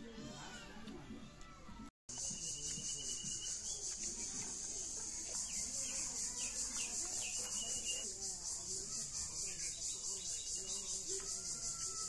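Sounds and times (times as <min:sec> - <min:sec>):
insect chorus trilling: 0:02.1 - 0:12.0.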